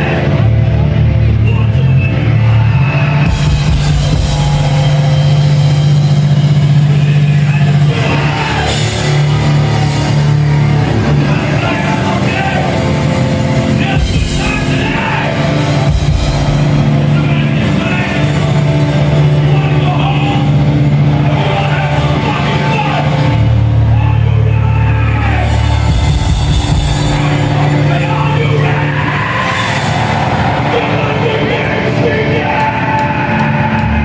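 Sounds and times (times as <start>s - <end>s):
punk band playing live: 0.0s - 34.0s.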